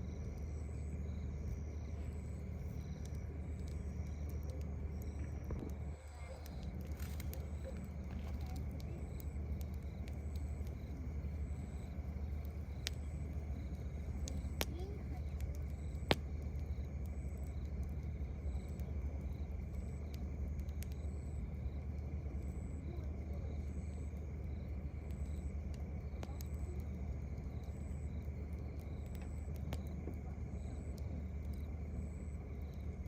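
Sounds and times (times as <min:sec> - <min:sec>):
cricket chirping: 0:00.0 - 0:33.0
low steady rumble: 0:00.0 - 0:33.0
campfire crackling and popping: 0:00.1 - 0:33.0.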